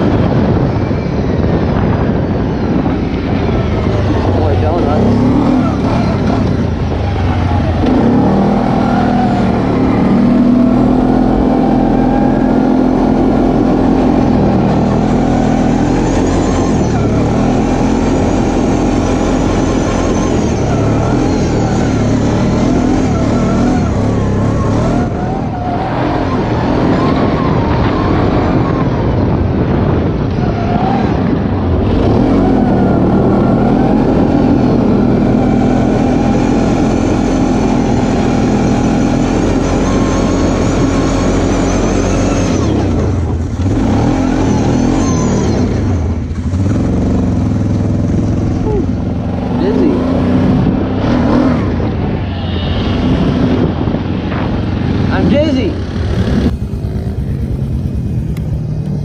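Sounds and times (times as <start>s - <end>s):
quad engine revving: 3.2s - 30.1s, 31.0s - 59.0s.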